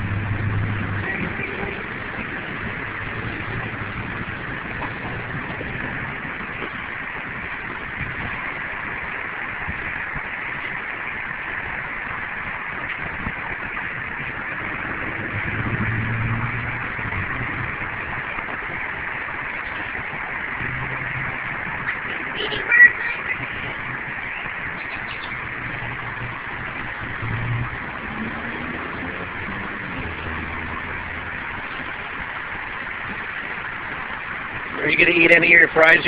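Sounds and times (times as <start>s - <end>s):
low hum: 0.0s - 34.8s
engine noise: 0.0s - 36.0s.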